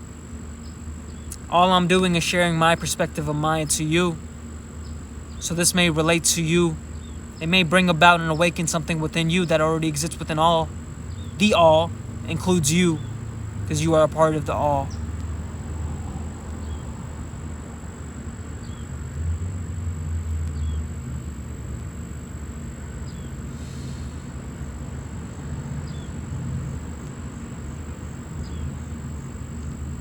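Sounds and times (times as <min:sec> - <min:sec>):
steady low rumble: 0:00.0 - 0:30.0
thin high whine: 0:00.0 - 0:30.0.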